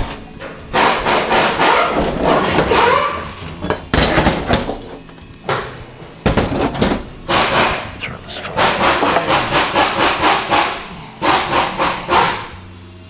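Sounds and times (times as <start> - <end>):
sharp knocks: 0.0 - 12.7
metal scraping and clanking: 0.0 - 13.0.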